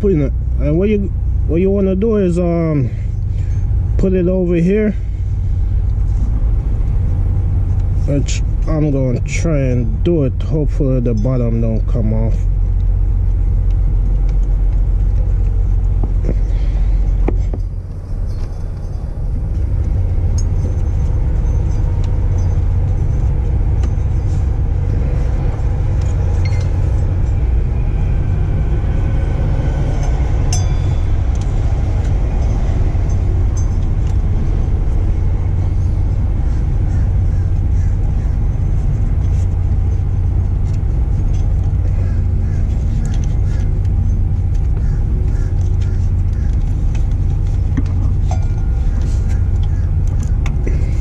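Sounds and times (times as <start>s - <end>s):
low mechanical rumble: 0.0s - 51.0s.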